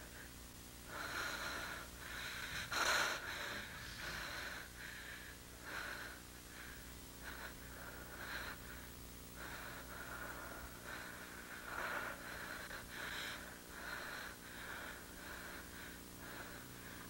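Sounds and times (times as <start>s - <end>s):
woman breathing heavily: 0.0s - 17.0s.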